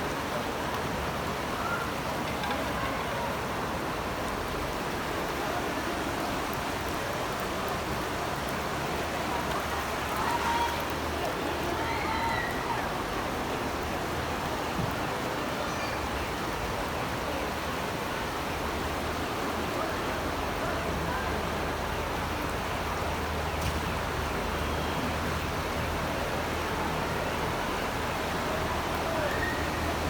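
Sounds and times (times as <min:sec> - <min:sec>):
floodwater roaring: 0:00.0 - 0:30.0.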